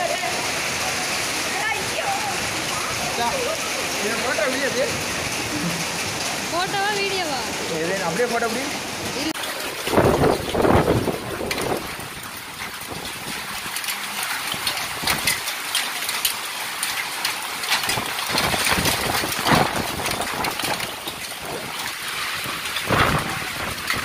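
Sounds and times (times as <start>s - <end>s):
hailstones striking surfaces: 0.0s - 24.0s
heavy rain hiss: 0.0s - 24.0s
low rain surges: 0.0s - 24.0s.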